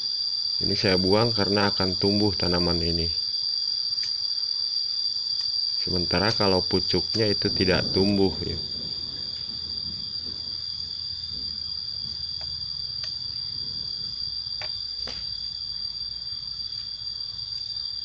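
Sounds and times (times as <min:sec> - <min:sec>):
shrill insect trill: 0:00.0 - 0:18.0.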